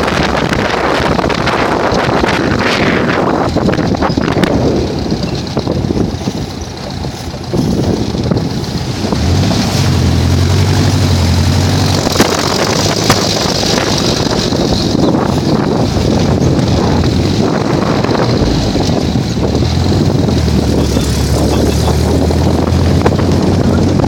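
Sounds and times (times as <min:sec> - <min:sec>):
dune buggy engine: 0:00.0 - 0:24.0
wind buffeting microphone: 0:00.0 - 0:24.0.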